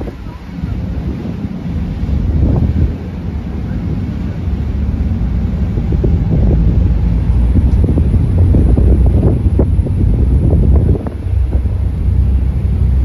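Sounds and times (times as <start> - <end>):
ferry engine rumble: 0.0 - 13.0
wind buffeting microphone: 0.0 - 13.0.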